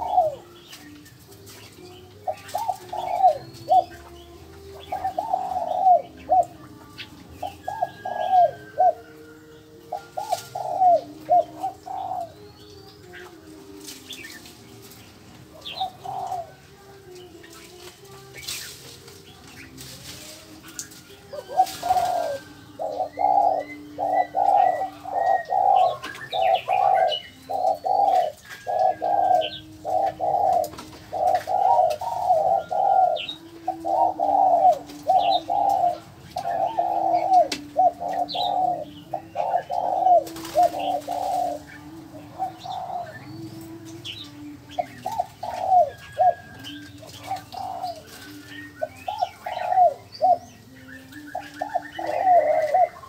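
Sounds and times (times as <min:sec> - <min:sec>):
birds calling hoarse notes: 0:00.0 - 0:53.0
small birds chirping: 0:00.0 - 0:53.0.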